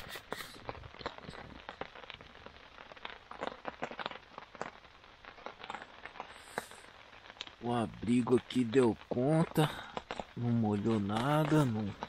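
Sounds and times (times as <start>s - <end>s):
heavy raindrops tapping: 0.0s - 12.0s
steady rain: 0.0s - 12.0s.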